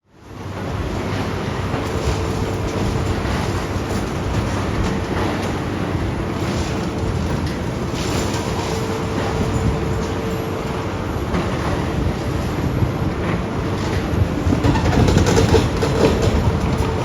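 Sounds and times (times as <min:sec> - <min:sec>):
excavator engine rumble: 0:00.4 - 0:17.0.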